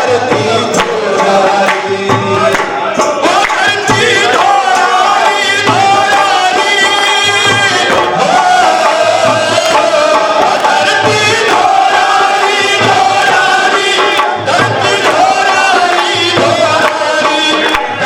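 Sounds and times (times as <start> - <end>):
devotional singing: 0.0 - 18.0
steady drum beat: 0.0 - 18.0.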